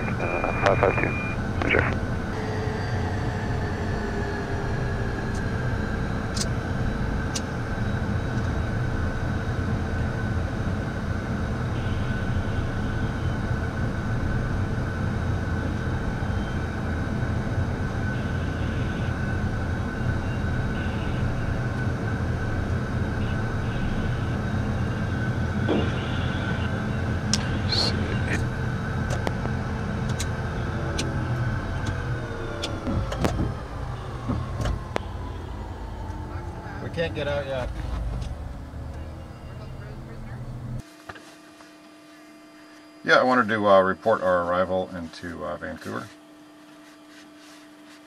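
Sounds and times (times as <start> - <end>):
jet engines idling: 0.0 - 41.0.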